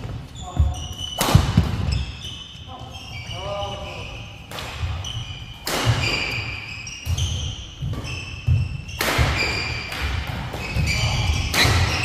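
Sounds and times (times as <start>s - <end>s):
shuttlecock hit or shoe squeak: 0.4s - 12.0s.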